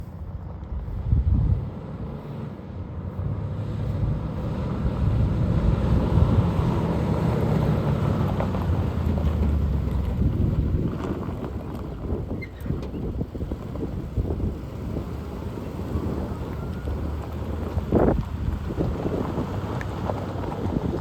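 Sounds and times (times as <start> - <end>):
truck engine rumbling: 0.0 - 21.0
wind buffeting microphone: 0.2 - 2.4, 3.1 - 21.0.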